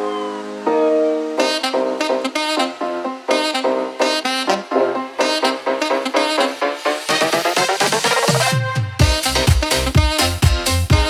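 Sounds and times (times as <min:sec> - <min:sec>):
music with brass stabs: 0:01.4 - 0:11.0.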